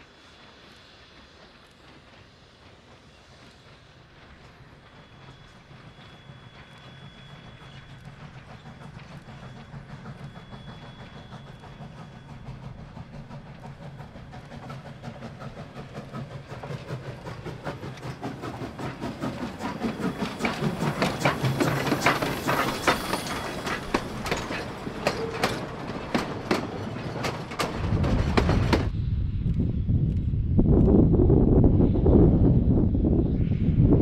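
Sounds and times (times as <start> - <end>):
steam hiss: 0.0 - 27.8
steam locomotive rumble: 0.0 - 34.0
rods and wheels clanking: 1.4 - 29.0.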